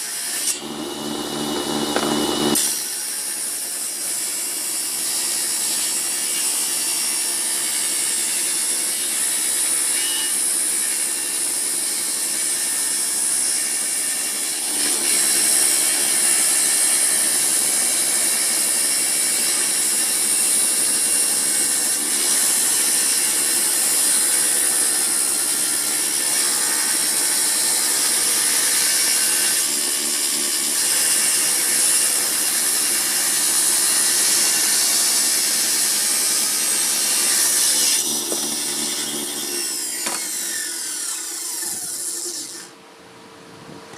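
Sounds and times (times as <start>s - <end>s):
table saw cutting wood: 0.0s - 42.8s.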